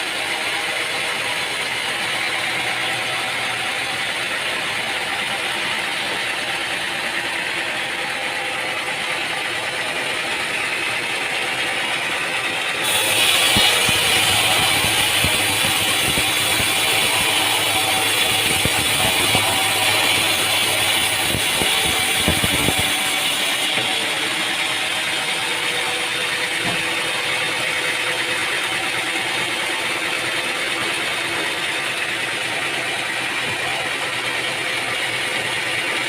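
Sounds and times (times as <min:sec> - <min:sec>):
sawmill machinery running: 0:00.0 - 0:36.0.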